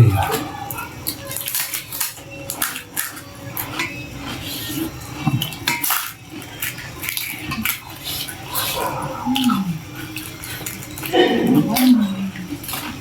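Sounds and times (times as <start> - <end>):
spoons clinking on plates: 0.0 - 13.0.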